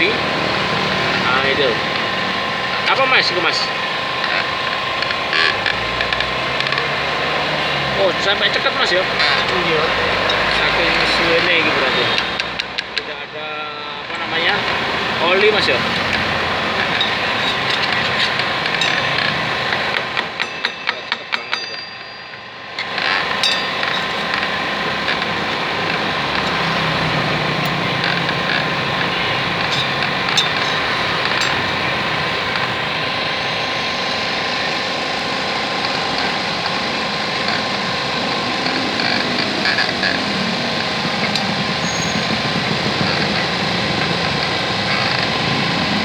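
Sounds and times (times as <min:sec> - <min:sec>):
machine running: 0:00.0 - 0:46.0.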